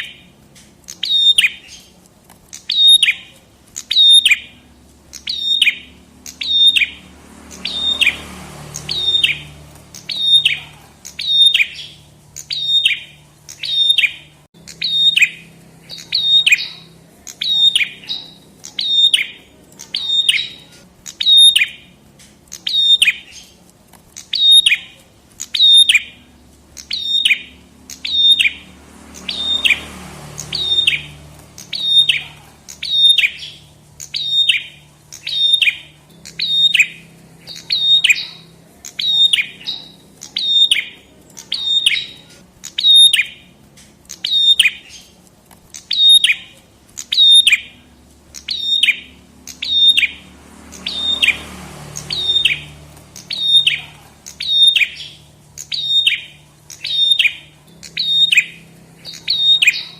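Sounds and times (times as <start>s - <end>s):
bird calling high notes: 2.6s - 22.0s, 24.2s - 43.6s, 45.9s - 59.9s.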